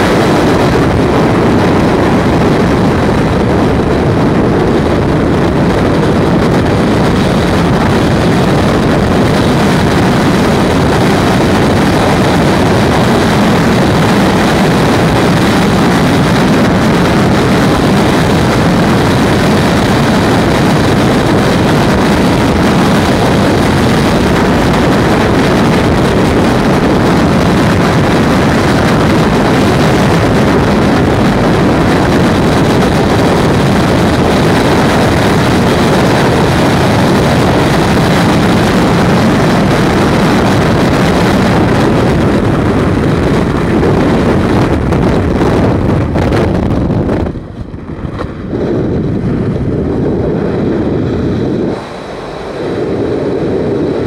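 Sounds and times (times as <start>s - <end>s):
freefall wind rushing: 0.0s - 54.0s.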